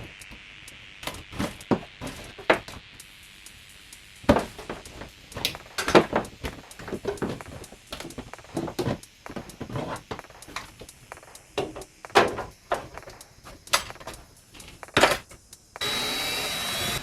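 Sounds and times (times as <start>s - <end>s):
hard objects clattering: 0.0s - 0.4s, 1.0s - 3.0s, 4.2s - 15.5s.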